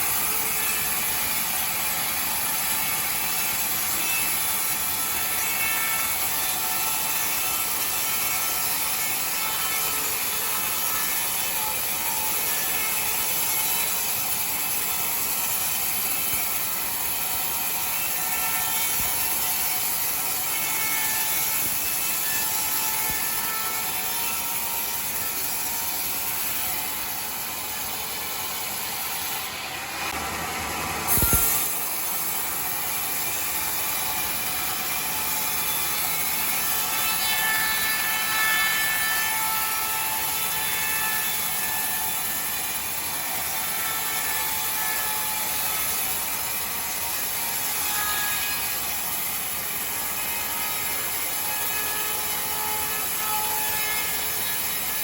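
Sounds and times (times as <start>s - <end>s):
saw cutting timber: 0.0s - 55.0s.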